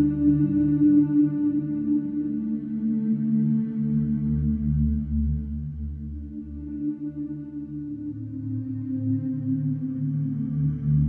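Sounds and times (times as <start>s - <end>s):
ambient drone music: 0.0s - 11.0s.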